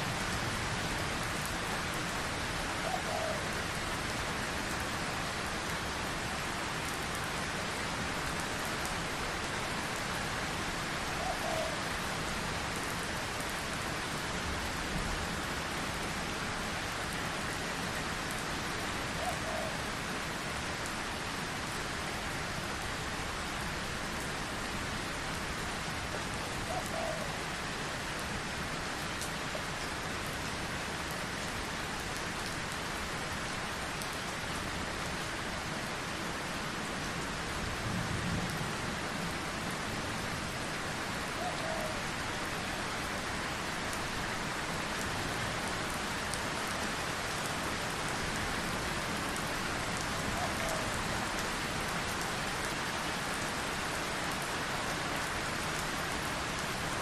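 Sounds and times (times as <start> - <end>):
heavy rainfall: 0.0 - 57.0.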